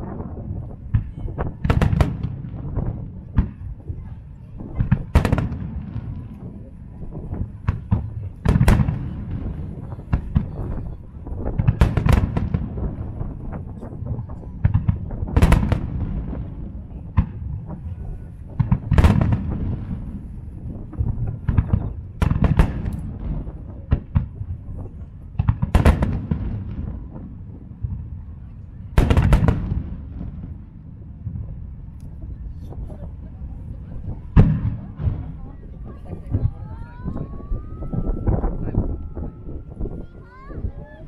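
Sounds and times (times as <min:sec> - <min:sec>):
low rumble: 0:00.0 - 0:41.0.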